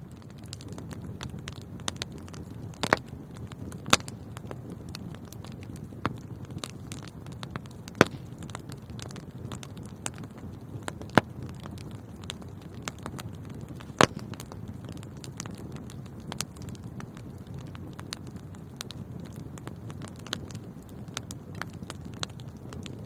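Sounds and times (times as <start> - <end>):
fire burning in fireplace: 0.0 - 23.0
sharp pops of fire: 0.3 - 23.0.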